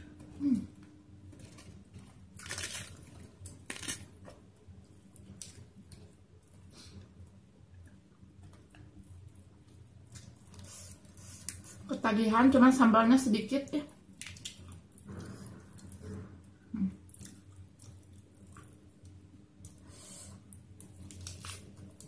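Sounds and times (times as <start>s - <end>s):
faint chewing: 0.1s - 11.9s, 13.9s - 22.0s.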